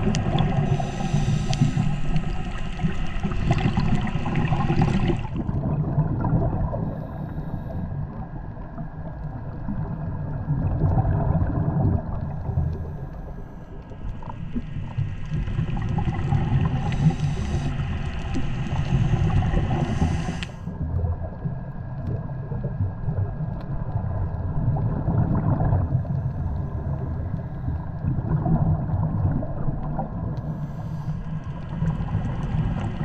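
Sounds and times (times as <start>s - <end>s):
muffled underwater rumble: 0.0s - 33.0s.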